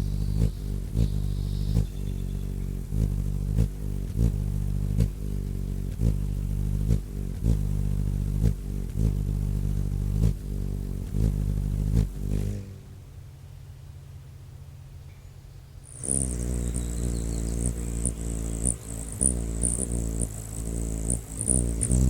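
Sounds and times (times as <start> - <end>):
hummingbird wings humming: 0.0 - 22.0.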